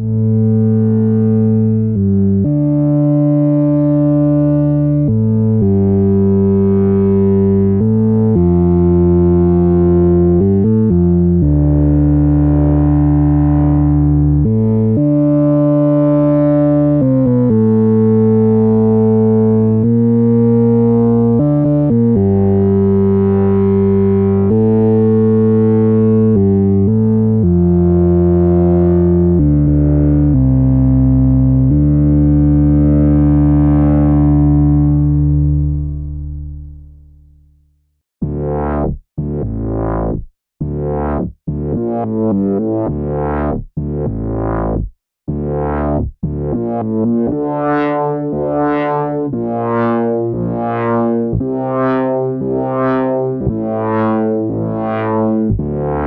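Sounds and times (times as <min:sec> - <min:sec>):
synthesizer lead melody: 0:01.5 - 0:36.7, 0:38.2 - 0:56.0.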